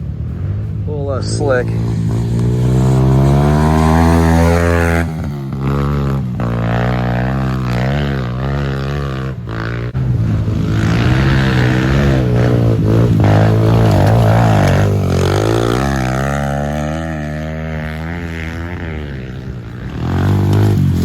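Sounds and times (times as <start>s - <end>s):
pit bike engine revving: 0.0s - 21.0s.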